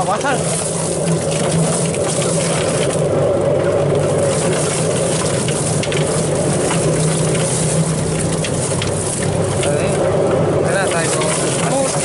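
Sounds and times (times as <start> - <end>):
chicken plucker motor hum: 0.0 - 12.0.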